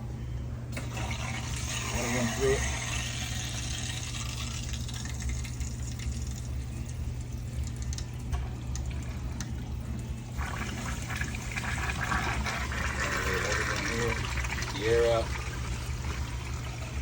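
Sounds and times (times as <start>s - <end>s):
water rushing through pipes: 0.7s - 6.5s, 7.6s - 17.0s.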